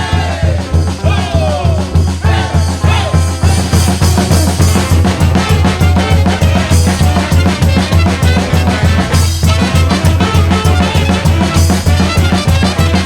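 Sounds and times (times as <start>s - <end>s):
brass band playing upbeat tune: 0.0s - 13.0s
drum kit beat: 0.0s - 13.0s.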